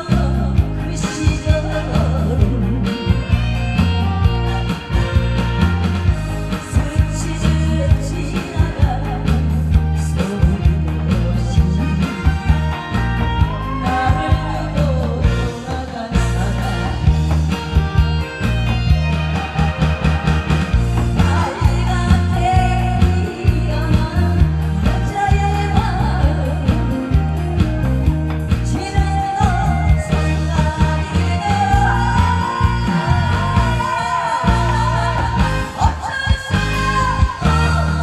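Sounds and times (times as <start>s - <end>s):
woman singing with vibrato: 0.0s - 18.2s, 21.0s - 27.6s, 28.5s - 38.0s
backing track with heavy bass beat: 0.0s - 38.0s.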